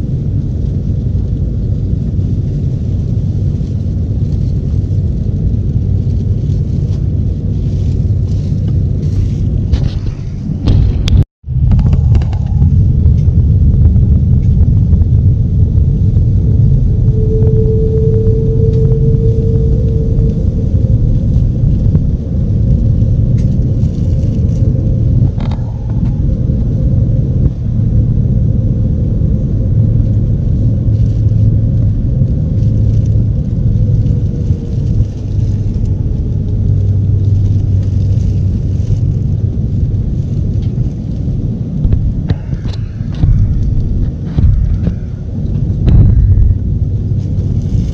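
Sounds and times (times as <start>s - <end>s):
faint steady hum: 0.0s - 47.9s
jet engines rumbling in cabin: 0.0s - 47.9s.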